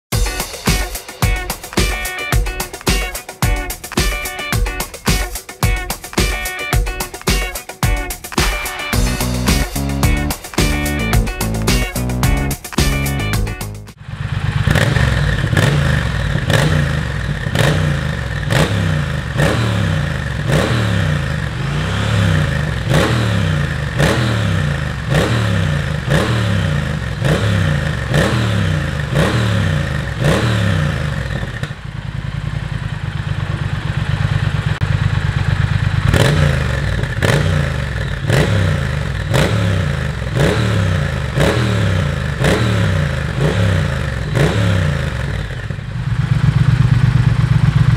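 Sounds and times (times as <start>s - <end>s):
motorcycle engine revving: 8.8s - 47.9s
motorcycle engine idling: 9.0s - 47.9s.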